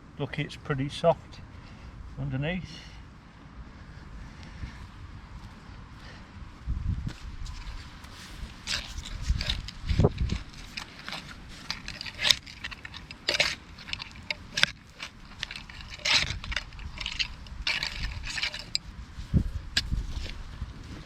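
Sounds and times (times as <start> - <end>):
scraping and rustling of earth: 3.6 - 21.0.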